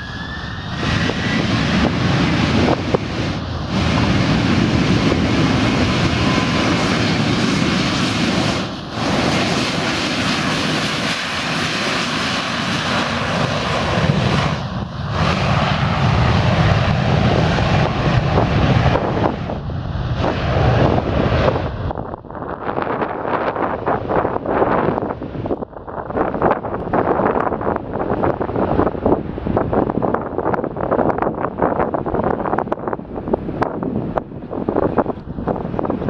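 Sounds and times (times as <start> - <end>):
jet engines at high thrust: 0.0 - 36.0.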